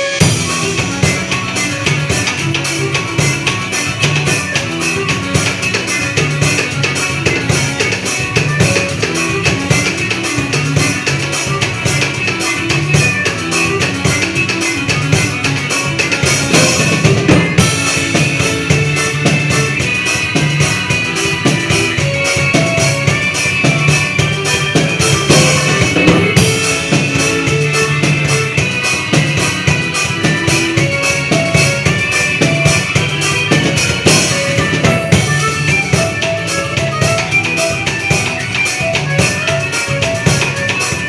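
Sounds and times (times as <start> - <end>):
drum kit playing a busy beat: 0.0 - 41.0
recorded band music: 0.0 - 41.0.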